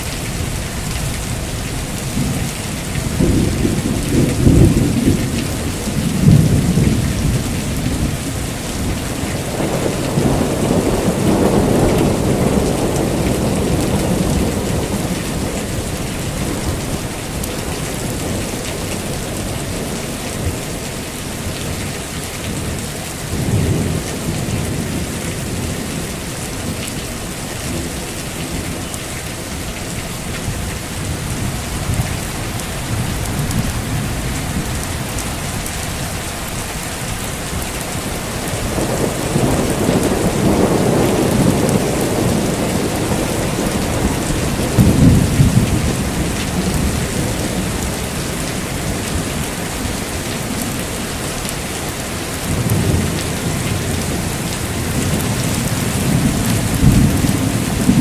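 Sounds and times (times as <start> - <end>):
thunder rumbling: 0.0 - 51.3, 52.2 - 58.0
heavy rain: 0.0 - 58.0.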